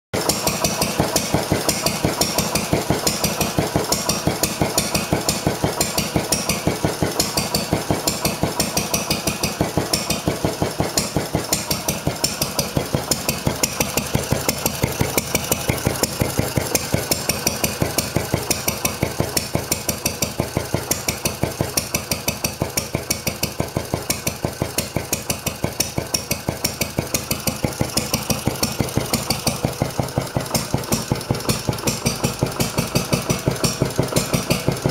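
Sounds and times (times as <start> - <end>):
stationary engine running: 0.2 - 34.9.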